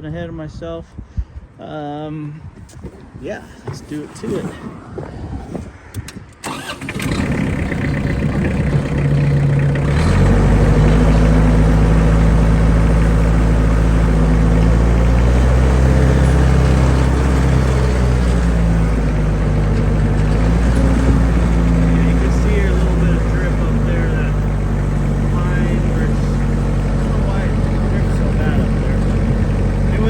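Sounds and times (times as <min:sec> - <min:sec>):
tractor engine starting and idling: 0:05.9 - 0:30.0.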